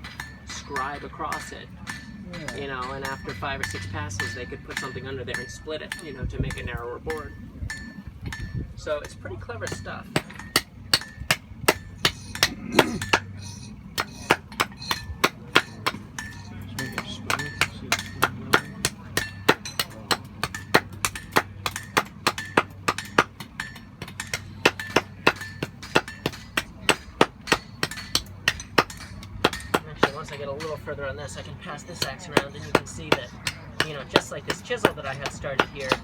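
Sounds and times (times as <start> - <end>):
hammer striking metal on anvil: 0.0 - 36.0.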